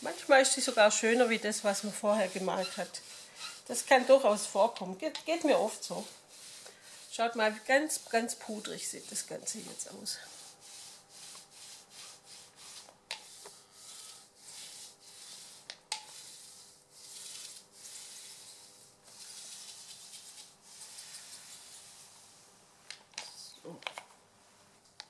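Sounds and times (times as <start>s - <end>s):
roller rubbing hiss: 0.0s - 4.6s, 5.4s - 22.4s.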